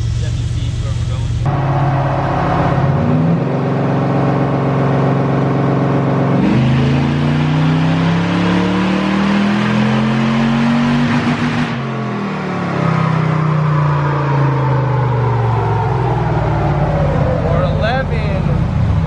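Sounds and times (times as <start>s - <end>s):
truck engine at full throttle: 0.0s - 19.0s.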